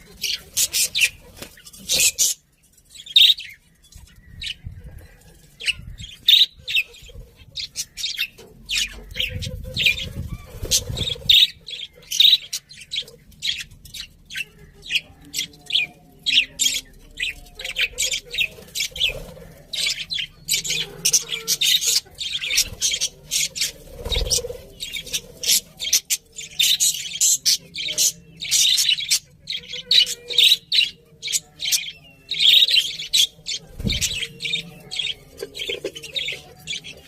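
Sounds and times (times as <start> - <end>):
budgerigars chirping: 0.0 - 2.4, 3.0 - 37.0.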